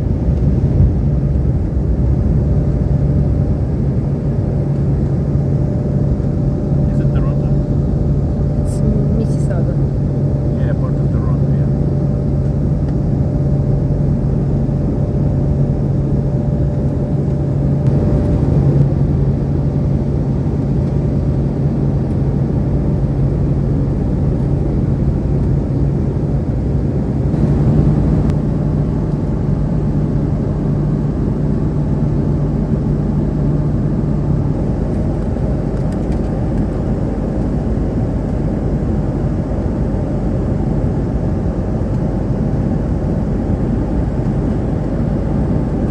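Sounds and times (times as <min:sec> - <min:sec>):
low hum: 0:00.0 - 0:45.9
vehicle drone from inside: 0:00.0 - 0:45.9.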